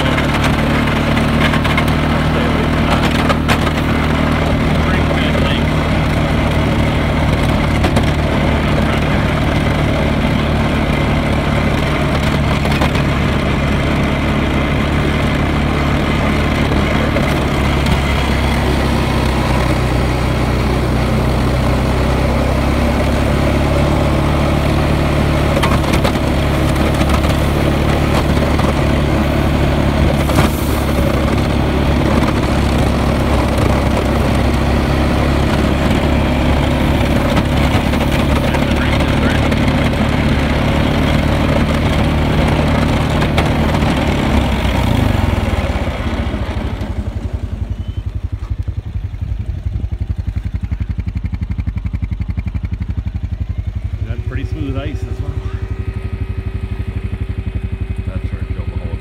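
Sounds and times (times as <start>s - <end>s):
atv engine running: 0.0s - 59.0s
plow blade pushing snow: 0.0s - 59.0s.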